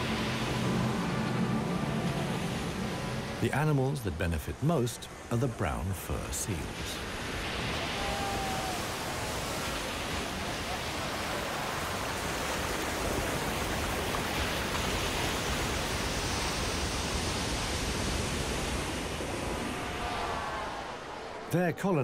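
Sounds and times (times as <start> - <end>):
surf breaking over rocks: 0.0 - 21.4.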